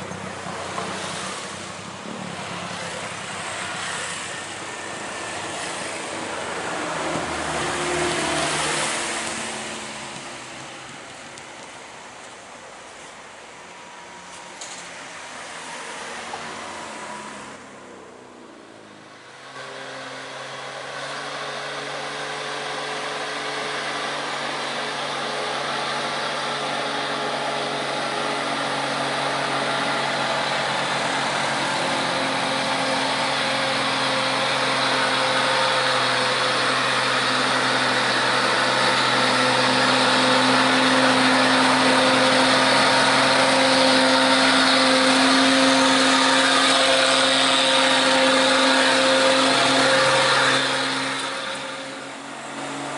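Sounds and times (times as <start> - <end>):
truck diesel engine labouring: 0.0 - 52.9.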